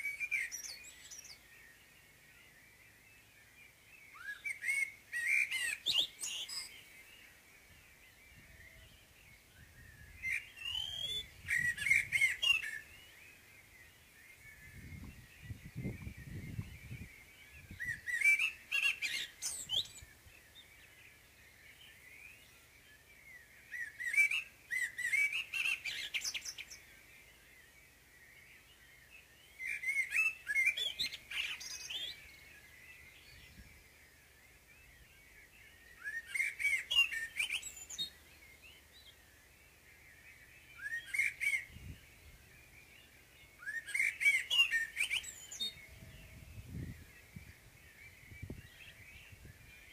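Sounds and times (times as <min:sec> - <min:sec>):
blackbird singing: 0:00.0 - 0:49.9.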